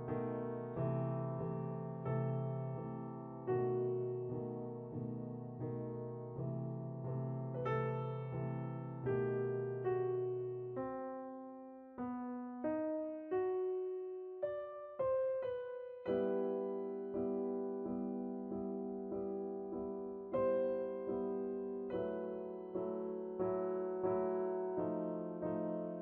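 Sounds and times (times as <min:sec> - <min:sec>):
soft piano music: 0:00.0 - 0:26.0.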